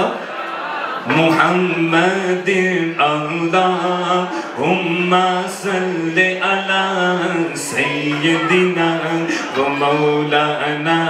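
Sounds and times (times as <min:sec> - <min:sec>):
man singing through a microphone: 0:01.0 - 0:11.0.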